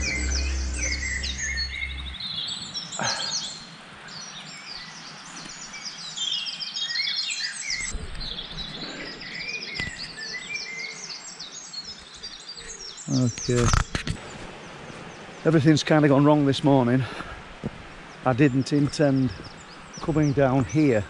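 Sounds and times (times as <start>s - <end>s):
songbirds singing and chirping: 0.0s - 21.0s
steady background hiss: 0.0s - 21.0s.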